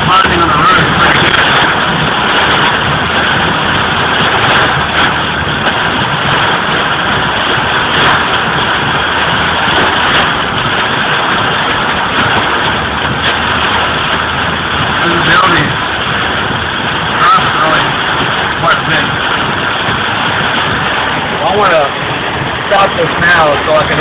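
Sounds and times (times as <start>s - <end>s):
heavy rain on a car: 0.0s - 24.0s.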